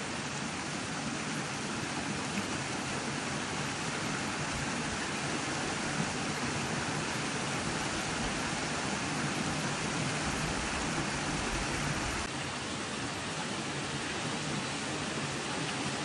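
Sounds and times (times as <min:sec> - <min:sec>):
river flowing: 0:00.0 - 0:16.0.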